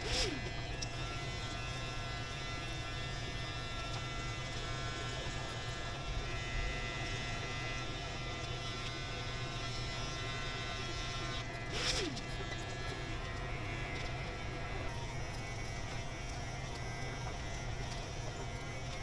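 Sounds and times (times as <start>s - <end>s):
electric hair clippers buzzing: 0.0s - 19.0s.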